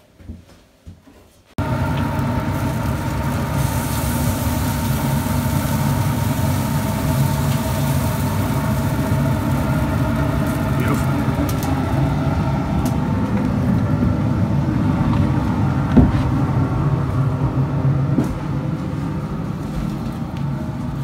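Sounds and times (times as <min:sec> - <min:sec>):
low engine drone: 0:01.6 - 0:21.0.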